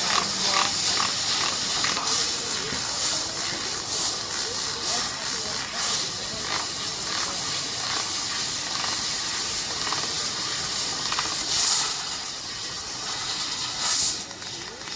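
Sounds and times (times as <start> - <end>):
laser cutter gas hiss: 0.0 - 14.9.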